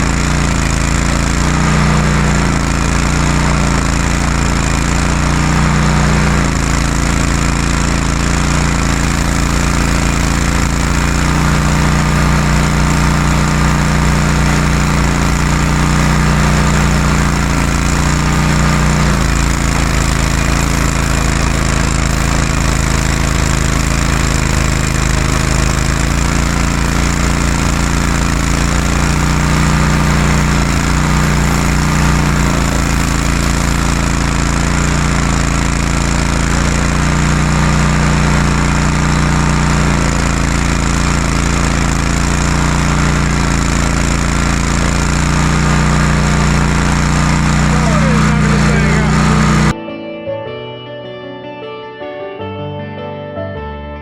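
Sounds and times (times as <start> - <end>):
stump grinder engine grinding: 0.0 - 49.8.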